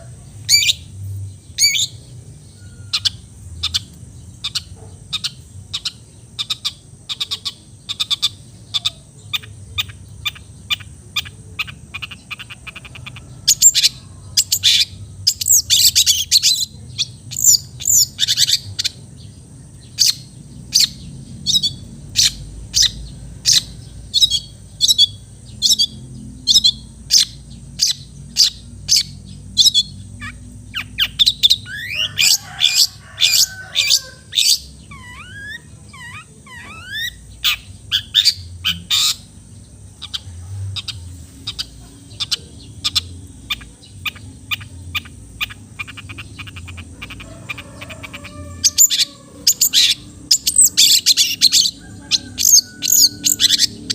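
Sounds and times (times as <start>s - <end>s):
shrike singing: 0.0s - 53.9s.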